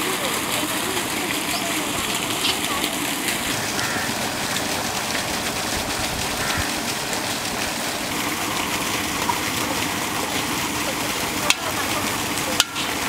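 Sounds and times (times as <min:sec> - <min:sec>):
ladle stirring: 0:00.0 - 0:13.0.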